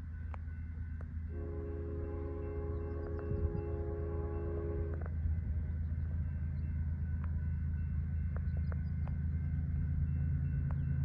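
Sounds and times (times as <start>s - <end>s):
freight train rumble: 0.0s - 11.0s.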